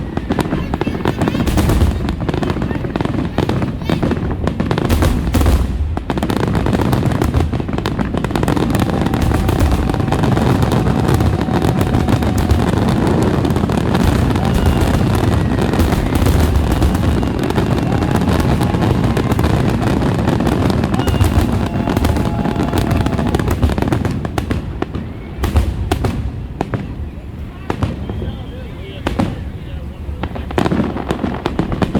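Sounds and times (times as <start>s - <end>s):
fireworks cracks and pops: 0.0s - 27.0s, 30.2s - 31.9s
fireworks booming rumble: 0.0s - 31.9s.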